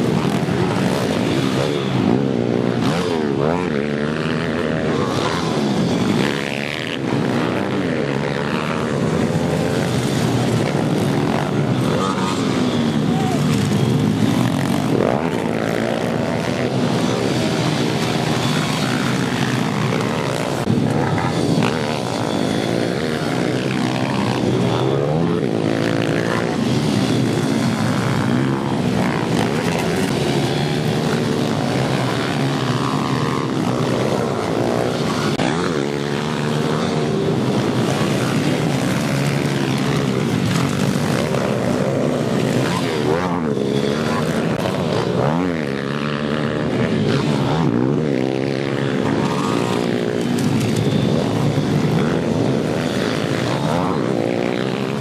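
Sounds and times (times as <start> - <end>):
pit bike engines buzzing and revving: 0.0 - 55.0.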